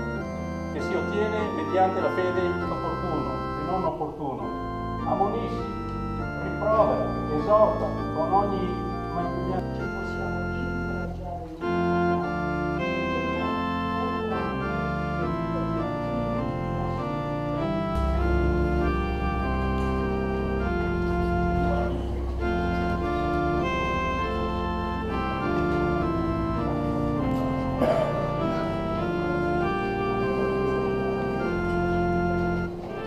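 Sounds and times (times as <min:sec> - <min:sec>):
deep bass pedal note: 0:00.0 - 0:33.0
organ playing sustained chords: 0:00.0 - 0:33.0.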